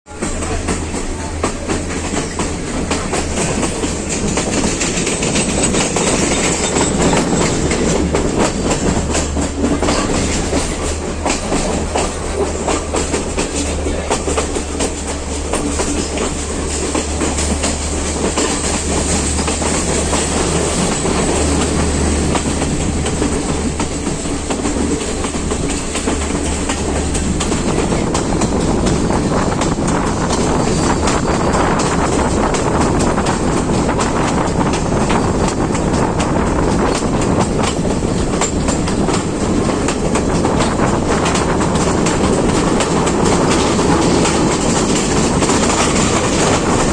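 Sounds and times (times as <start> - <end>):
train rumbling along track: 0.0 - 46.9
wheels clicking over rails: 0.1 - 46.9.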